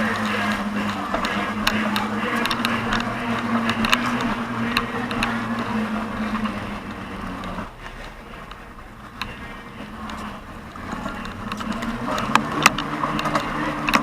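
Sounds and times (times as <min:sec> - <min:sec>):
engine running steadily: 0:00.0 - 0:14.0
sharp clicks and knocks: 0:00.0 - 0:14.0.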